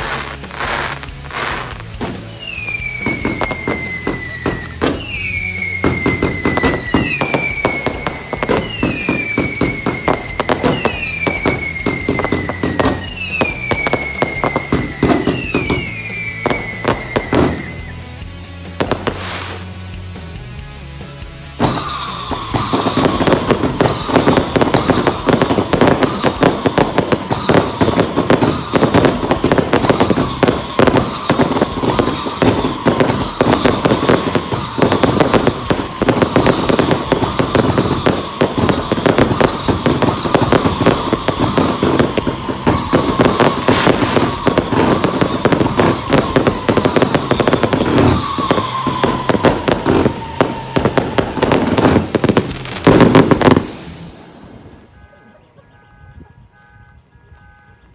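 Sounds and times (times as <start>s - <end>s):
firework whistle: 0.0s - 19.8s, 21.5s - 57.9s
firework bangs and crackles: 0.0s - 57.9s.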